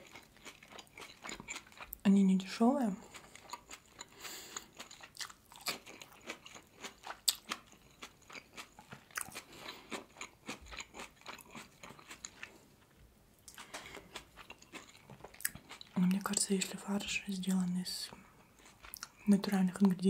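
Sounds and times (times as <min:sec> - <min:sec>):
wet chewing mouth sounds: 0:00.0 - 0:02.0, 0:03.0 - 0:12.6, 0:13.5 - 0:16.4, 0:18.2 - 0:20.0.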